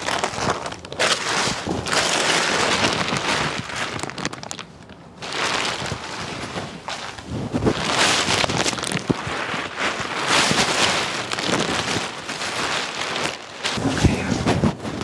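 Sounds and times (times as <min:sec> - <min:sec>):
plastic wrapping rustling: 0:00.0 - 0:15.0.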